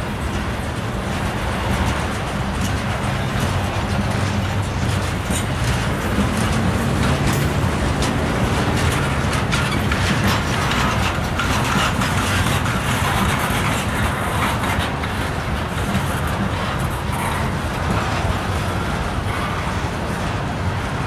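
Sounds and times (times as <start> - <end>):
train wheels rumbling and rattling: 0.0 - 21.0.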